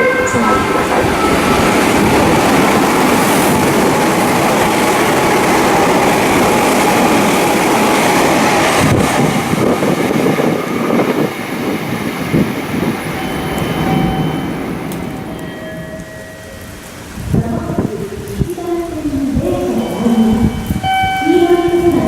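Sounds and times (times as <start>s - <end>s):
train wheels rushing on rail: 0.0s - 22.0s.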